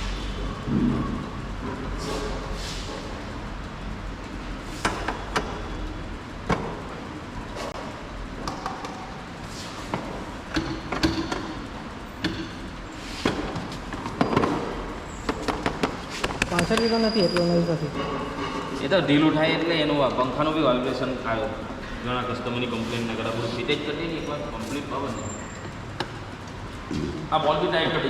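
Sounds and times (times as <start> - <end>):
workshop background noise: 0.0 - 28.0.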